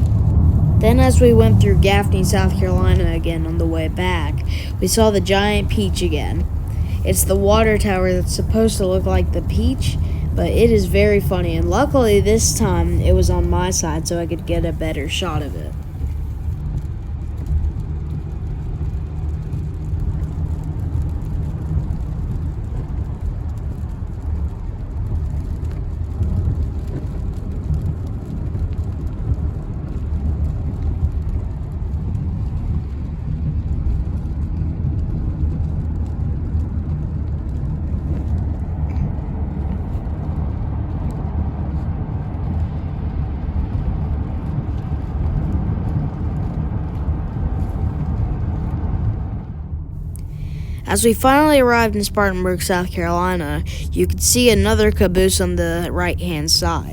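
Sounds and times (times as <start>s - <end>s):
car driving heard from inside: 0.0s - 56.9s.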